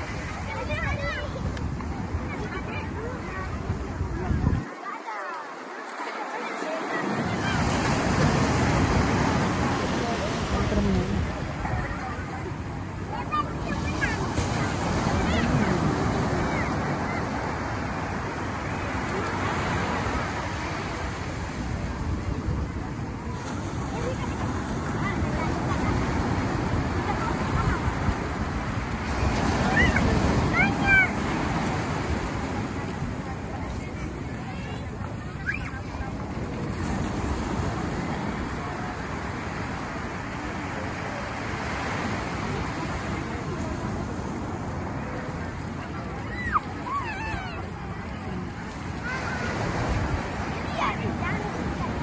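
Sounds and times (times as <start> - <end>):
wind buffeting microphone: 0.0 - 4.8, 7.0 - 52.0
faint voices: 0.0 - 52.0
surf rushing: 0.0 - 52.0.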